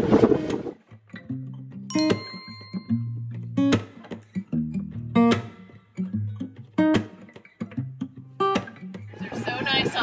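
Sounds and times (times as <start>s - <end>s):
guitar strumming chords: 0.0s - 9.1s.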